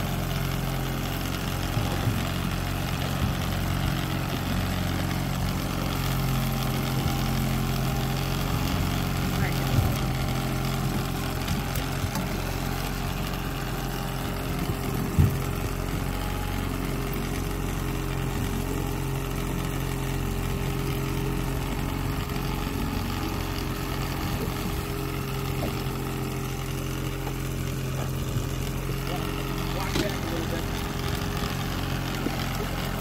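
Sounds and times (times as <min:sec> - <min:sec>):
outboard motor running: 0:00.0 - 0:33.0.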